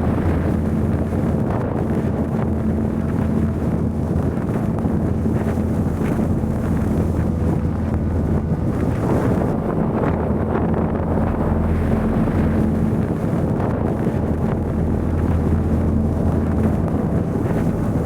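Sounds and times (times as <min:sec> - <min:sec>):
constant low hum: 0:00.0 - 0:18.0
wind buffeting microphone: 0:00.0 - 0:18.0.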